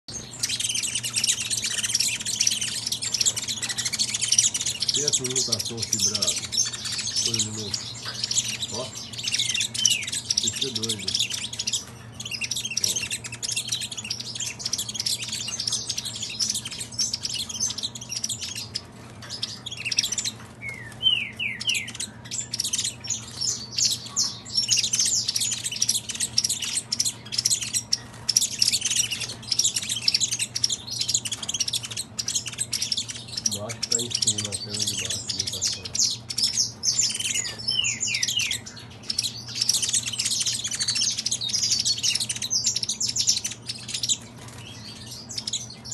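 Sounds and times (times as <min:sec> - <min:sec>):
finches chirping and trilling: 0:00.0 - 0:45.9.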